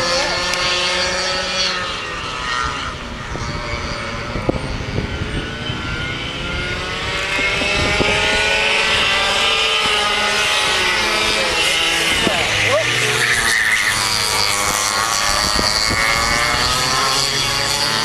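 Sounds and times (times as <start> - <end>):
go-kart engines racing: 0.0 - 18.0
wind rumbling on microphone: 0.0 - 18.0.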